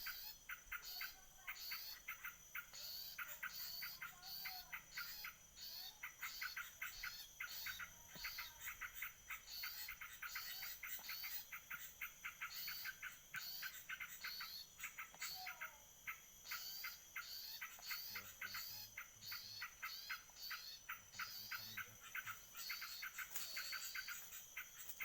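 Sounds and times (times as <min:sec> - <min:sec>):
high insect drone: 0:00.0 - 0:25.0
small birds chirping and trilling: 0:00.0 - 0:25.0.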